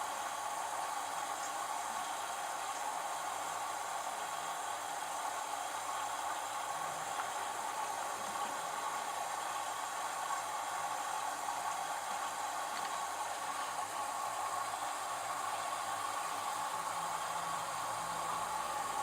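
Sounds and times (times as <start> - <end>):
washing machine whirring: 0.0 - 19.0.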